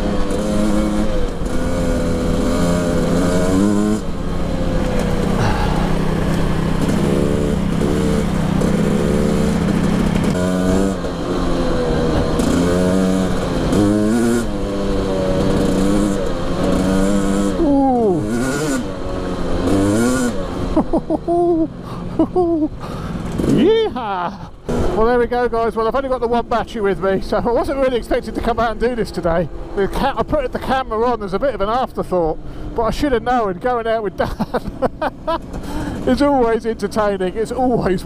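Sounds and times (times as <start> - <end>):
motorcycle engine revving: 0.0 - 36.6.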